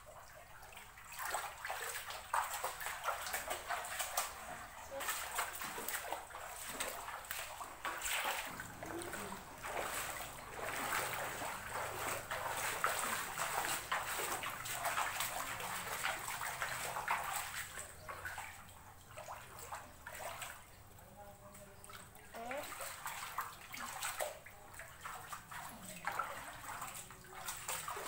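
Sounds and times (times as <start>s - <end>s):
feet wading through water: 0.0s - 28.0s.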